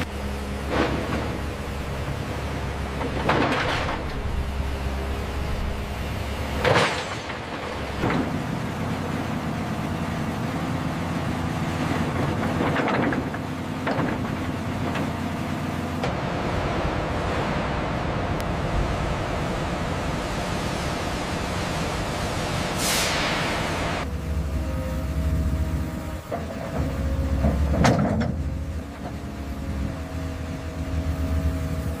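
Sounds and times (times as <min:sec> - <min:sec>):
excavator diesel engine: 0:00.0 - 0:32.0.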